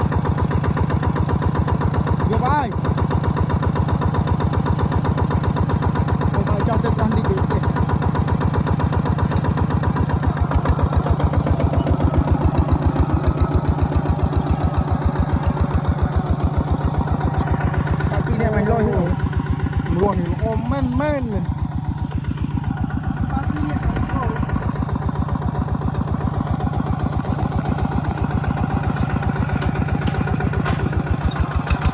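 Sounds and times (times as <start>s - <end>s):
engine chugging: 0.0s - 31.9s.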